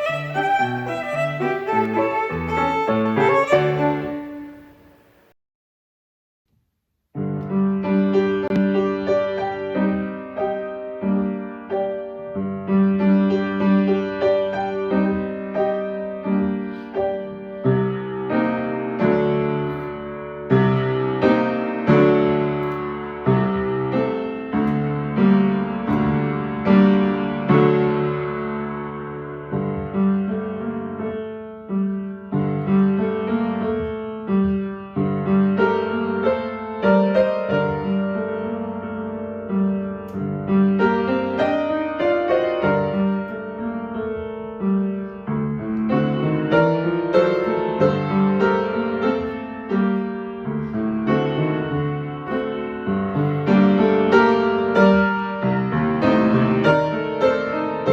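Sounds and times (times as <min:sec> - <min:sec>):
piano playing: 0:00.0 - 0:05.2, 0:08.6 - 0:57.9.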